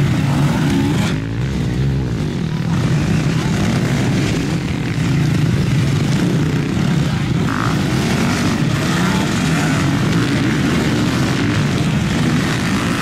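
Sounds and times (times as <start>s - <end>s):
motorcycle engines droning: 0.0s - 13.0s.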